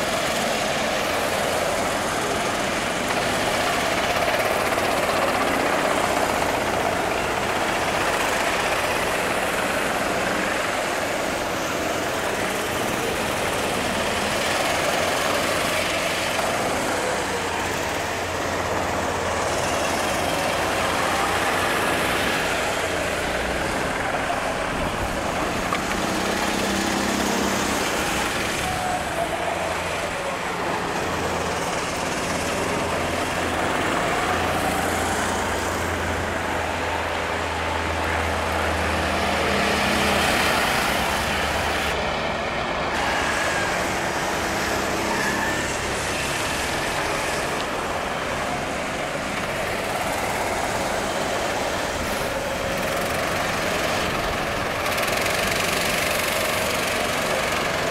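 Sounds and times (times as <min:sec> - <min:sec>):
go-kart engines: 0:00.0 - 0:57.9.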